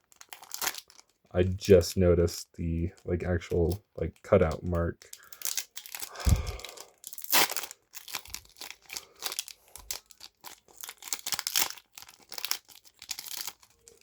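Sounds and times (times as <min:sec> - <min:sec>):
foil wrapper crinkling and tearing: 0:00.0 - 0:14.0.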